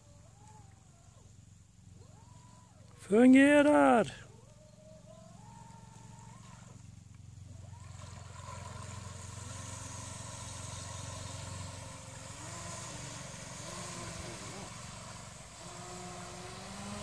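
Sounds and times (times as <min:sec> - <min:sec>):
model boat motor running: 0:00.0 - 0:17.0.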